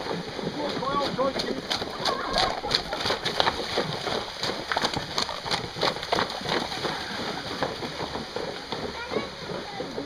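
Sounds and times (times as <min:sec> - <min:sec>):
hooves splashing in water: 0:00.0 - 0:10.0.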